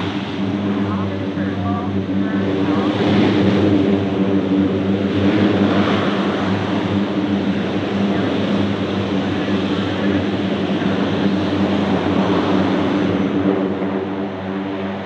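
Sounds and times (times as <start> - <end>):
propeller drone: 0.0 - 15.0.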